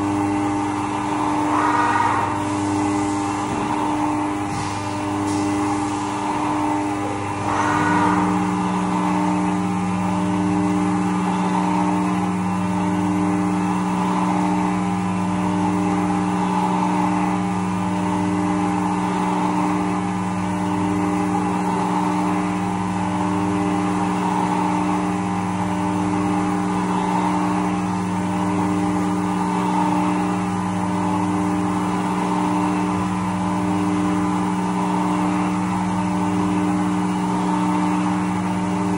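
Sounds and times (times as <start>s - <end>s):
milling machine whine: 0.0s - 38.9s.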